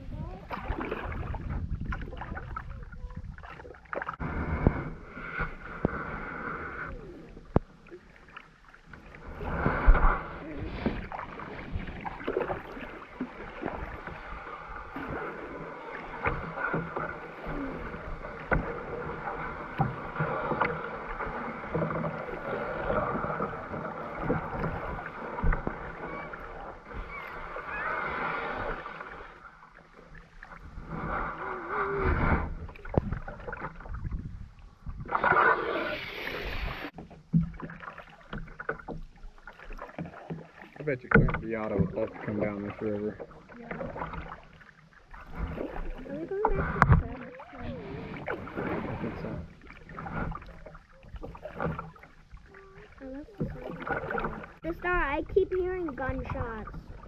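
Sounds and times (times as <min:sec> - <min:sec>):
paddles splashing in water: 0:00.0 - 0:57.0
water gurgling along hull: 0:00.0 - 0:57.0.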